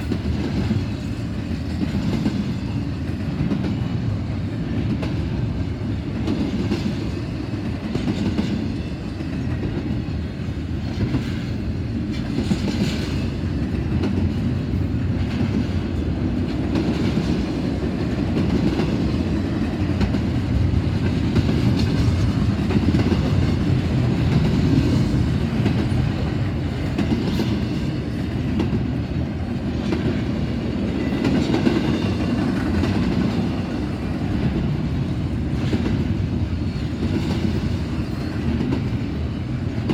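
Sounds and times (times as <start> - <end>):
freight train rumbling past: 0.0 - 39.9
train wheels clicking: 0.0 - 39.9.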